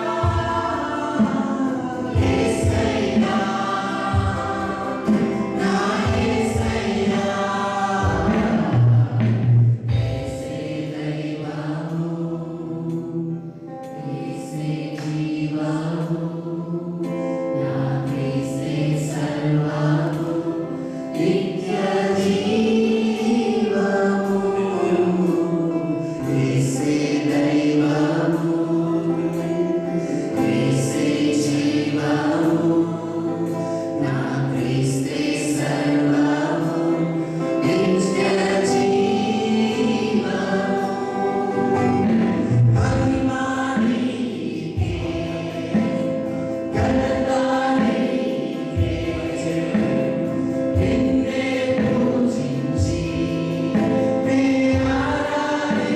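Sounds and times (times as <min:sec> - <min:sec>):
group singing gospel song: 0:00.0 - 0:55.9.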